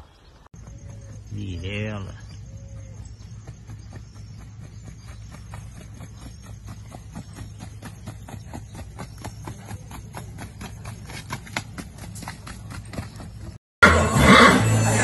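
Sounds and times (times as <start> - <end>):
horse hooves on dirt: 0.2 - 13.6.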